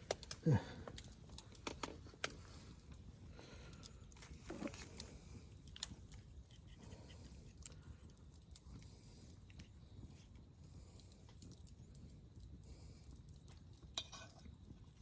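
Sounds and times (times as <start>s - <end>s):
faint chewing and clicks: 0.0s - 15.0s.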